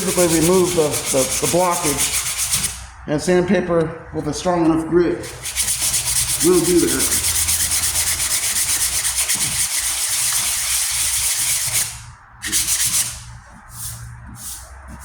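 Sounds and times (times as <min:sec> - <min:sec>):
sandpaper scrubbing on metal: 0:00.0 - 0:02.9, 0:05.2 - 0:15.0.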